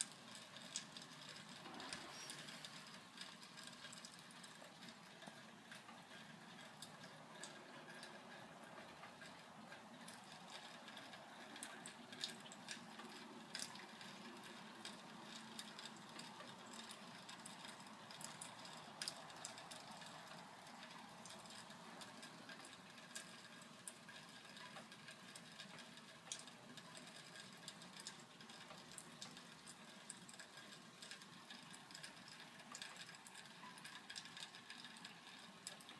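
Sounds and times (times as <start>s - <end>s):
light rain pattering and dripping: 0.0s - 35.9s
small ticks: 0.0s - 35.9s
steady soft hiss: 0.0s - 35.9s.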